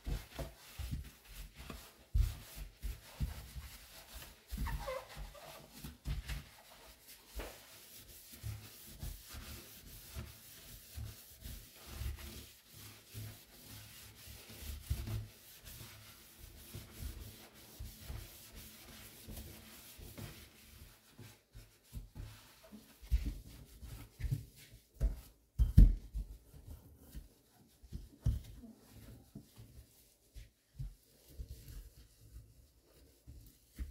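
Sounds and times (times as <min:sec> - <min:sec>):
sponge scrubbing metal sink: 0:00.0 - 0:33.9.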